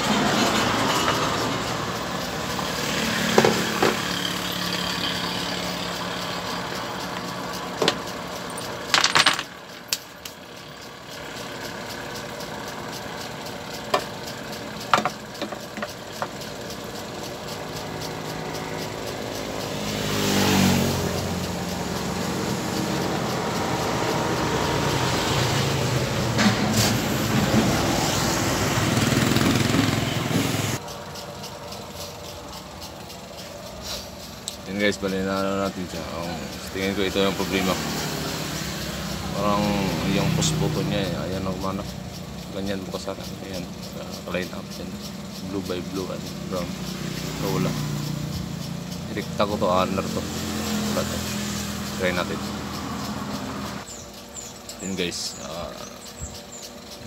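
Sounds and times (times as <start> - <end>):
engine-like hum: 0.0 - 57.0.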